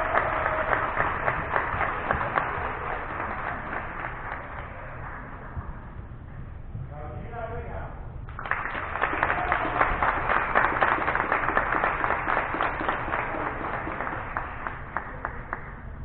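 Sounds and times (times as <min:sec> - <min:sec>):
group of people clapping: 0:00.0 - 0:05.8, 0:08.3 - 0:16.0.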